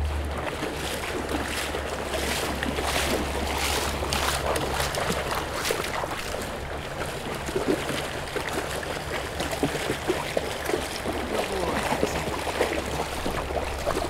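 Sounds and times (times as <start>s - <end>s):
low steady rumble: 0.0s - 14.0s
river water splashing: 0.0s - 14.0s.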